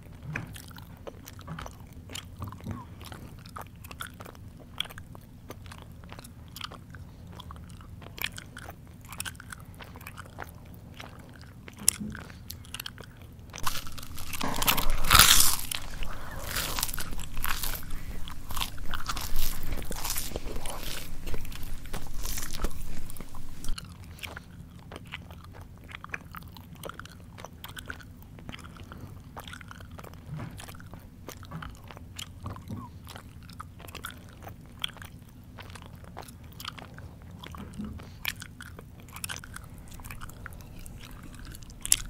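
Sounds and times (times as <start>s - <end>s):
person chewing: 0.0s - 42.0s
crunching snack: 0.5s - 42.0s.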